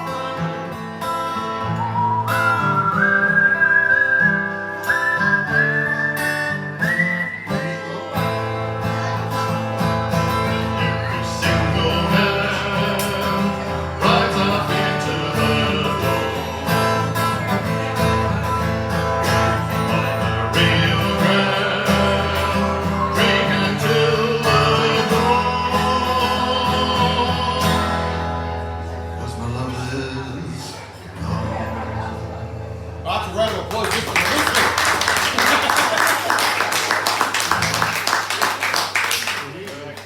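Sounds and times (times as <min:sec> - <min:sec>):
acoustic guitar strumming: 0:00.0 - 0:38.2.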